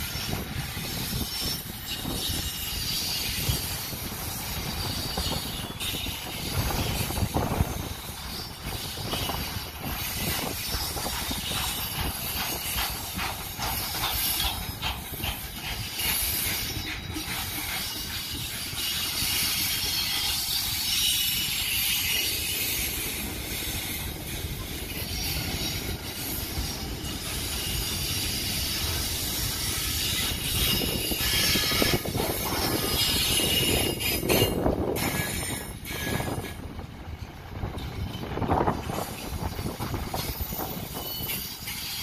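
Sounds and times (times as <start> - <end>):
freight train wheels on rails: 0.0 - 42.0
wheels clacking on rails: 0.0 - 42.0.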